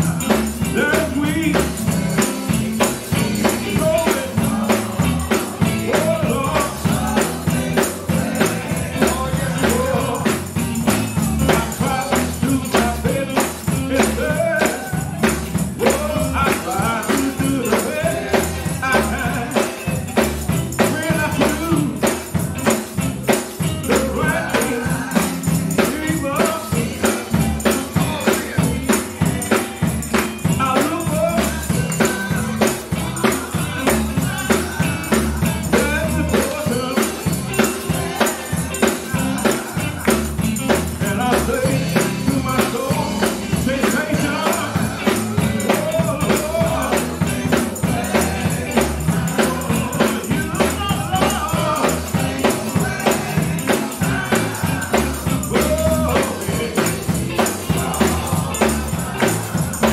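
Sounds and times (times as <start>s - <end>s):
choir singing gospel song: 0.0s - 59.9s
tambourine beat: 0.0s - 59.9s.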